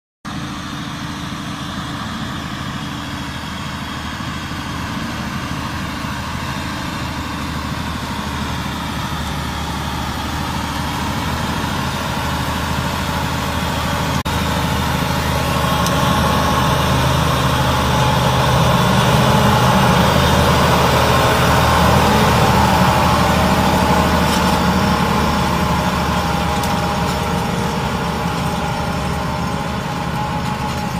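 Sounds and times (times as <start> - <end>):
tractor diesel engine under load: 0.2 - 30.9.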